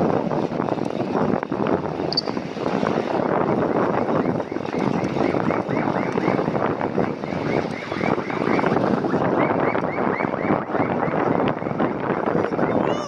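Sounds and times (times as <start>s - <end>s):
passing road traffic: 0.0s - 13.0s
wind rushing over microphone: 0.0s - 13.0s.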